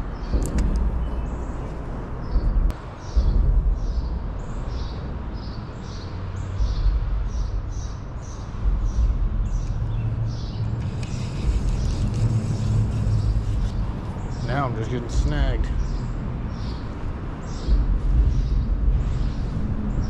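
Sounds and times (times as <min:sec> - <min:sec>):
low rumble: 0:00.0 - 0:05.8, 0:06.4 - 0:20.0.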